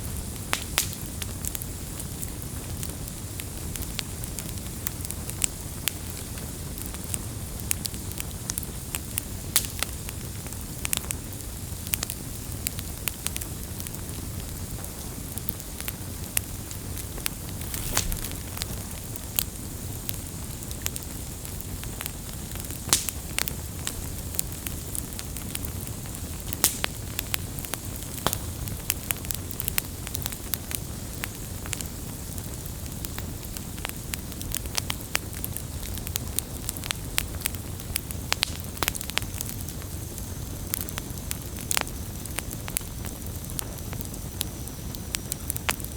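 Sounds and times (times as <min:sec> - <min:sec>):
campfire crackling: 0:00.0 - 0:45.9
fire pops and snaps: 0:00.2 - 0:10.1, 0:14.5 - 0:32.0, 0:32.8 - 0:45.9.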